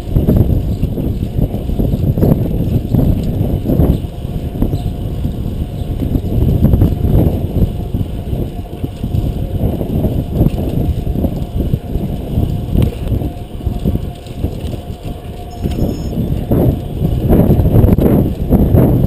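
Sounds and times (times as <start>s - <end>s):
tyre rumble on road: 0.0s - 19.0s
wind buffeting microphone: 0.0s - 19.0s.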